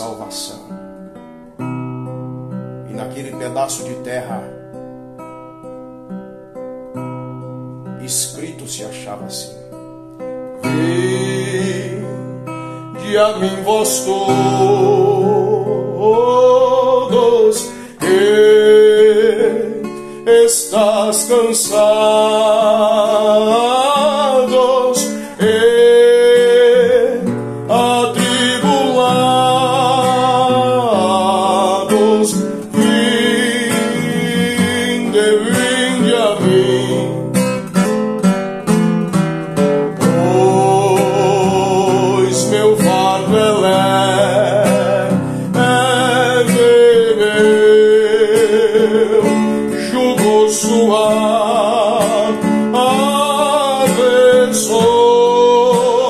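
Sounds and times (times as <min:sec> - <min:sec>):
man singing a hymn: 0:00.0 - 0:00.7, 0:02.9 - 0:04.6, 0:08.0 - 0:09.6, 0:10.6 - 0:37.5, 0:40.0 - 0:56.0
acoustic guitar: 0:00.0 - 0:56.0.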